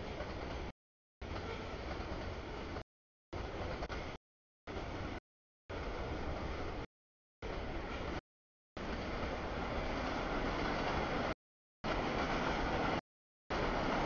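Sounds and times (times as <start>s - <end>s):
freight train rolling past: 0.0s - 2.8s, 3.4s - 8.2s, 8.8s - 14.0s.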